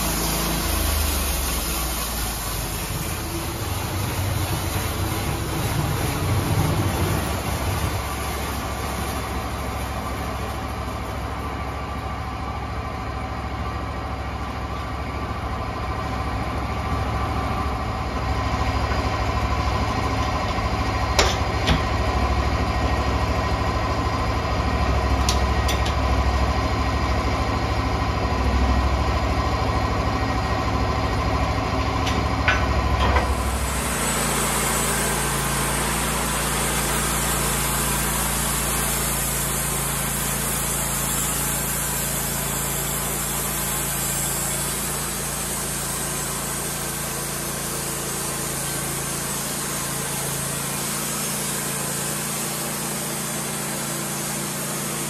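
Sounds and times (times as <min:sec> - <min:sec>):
sawmill engine idling: 0:00.0 - 0:55.0.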